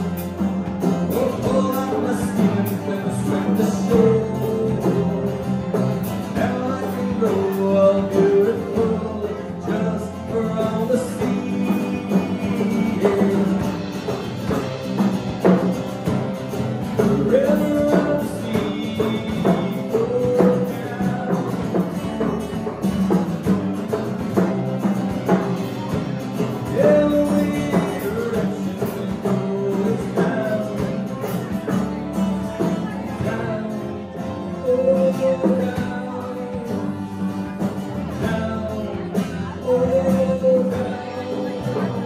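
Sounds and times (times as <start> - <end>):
person singing: 0.0 - 15.4, 16.8 - 22.8, 25.6 - 42.0
bass guitar: 0.0 - 42.0
drum kit: 0.0 - 42.0
guitars: 0.0 - 42.0.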